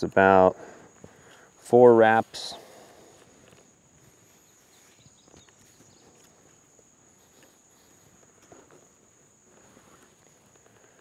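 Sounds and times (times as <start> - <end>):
high insect drone: 0.0 - 11.0
cord wrapped around wooden poles: 1.0 - 11.0.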